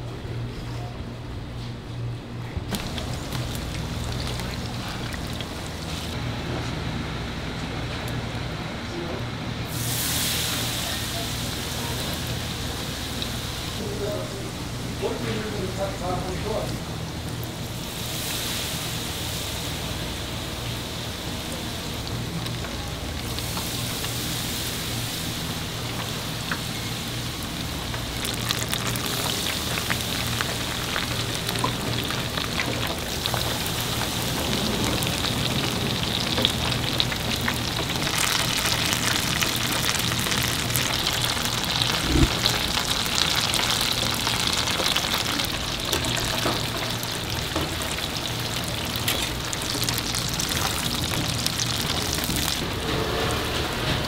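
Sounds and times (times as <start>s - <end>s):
hot oil sizzling and crackling: 2.7s - 6.3s, 9.7s - 52.9s.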